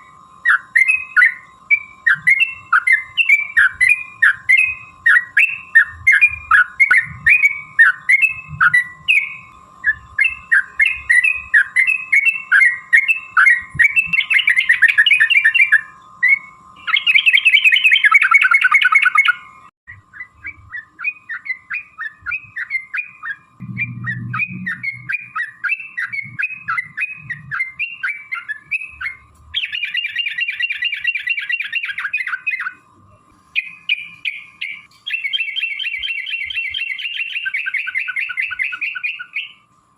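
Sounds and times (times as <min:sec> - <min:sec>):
bird song chattering and trills: 0:00.0 - 0:39.7
faint steady tone: 0:00.0 - 0:39.9.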